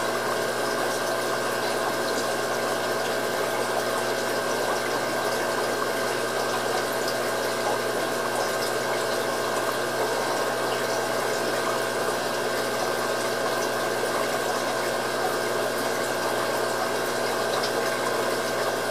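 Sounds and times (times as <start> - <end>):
aquarium pump humming: 0.0 - 18.9.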